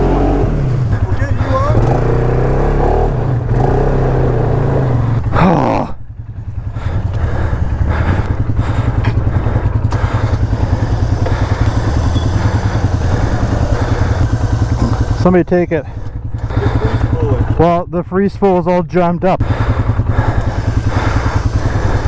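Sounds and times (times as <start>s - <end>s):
engine revving and idling: 0.0s - 22.0s.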